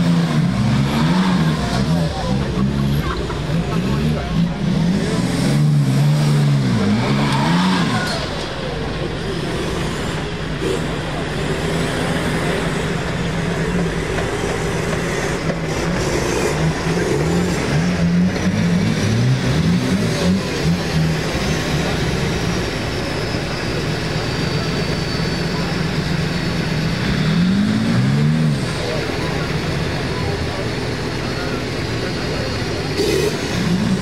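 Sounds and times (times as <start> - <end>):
engine revving: 0.0 - 34.0.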